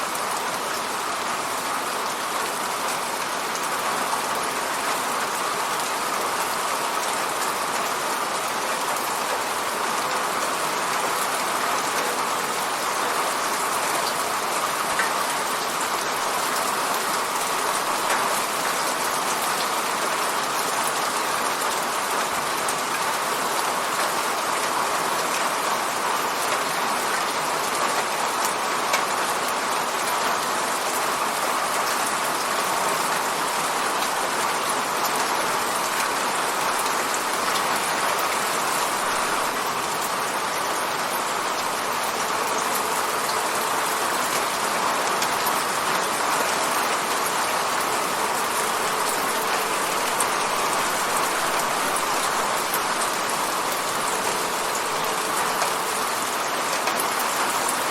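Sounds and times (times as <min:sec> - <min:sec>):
rain pattering on a window: 0:00.0 - 0:57.9.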